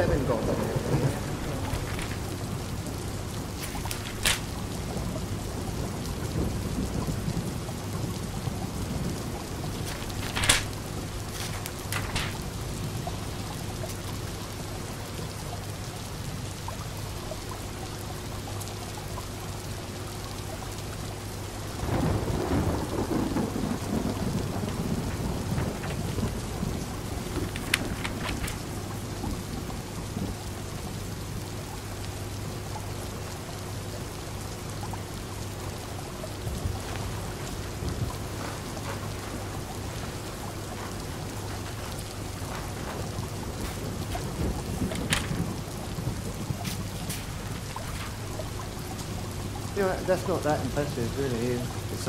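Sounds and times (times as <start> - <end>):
steady rain: 0.0 - 52.0
thunder rumble: 0.0 - 52.0.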